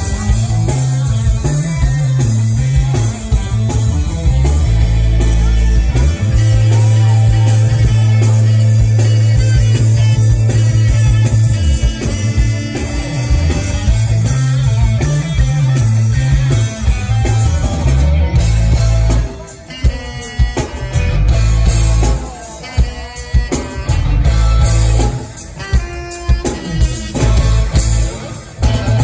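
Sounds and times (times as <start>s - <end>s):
bass guitar: 0.0s - 29.0s
drum kit: 0.0s - 29.0s
electric guitars: 0.0s - 29.0s.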